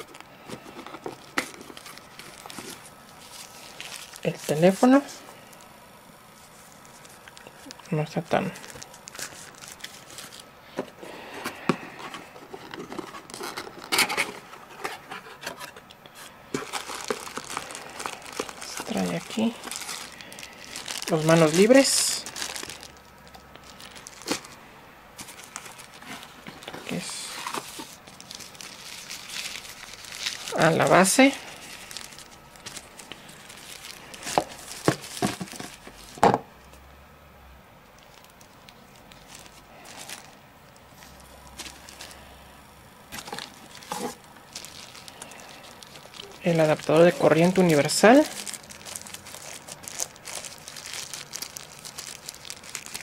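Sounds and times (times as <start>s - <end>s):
hands rummaging in cardboard box: 0.0s - 5.0s, 8.1s - 23.0s, 23.6s - 24.6s, 25.2s - 36.4s, 39.1s - 40.4s, 41.0s - 42.2s, 43.1s - 53.0s
packaging rustling and crinkling: 0.0s - 24.6s, 25.2s - 36.8s, 37.9s - 42.3s, 43.0s - 53.0s.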